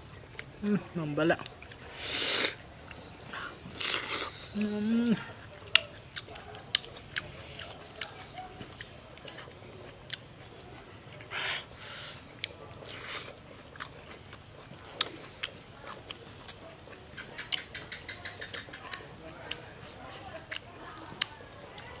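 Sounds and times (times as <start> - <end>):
wet chewing and lip smacking: 1.3 - 22.0.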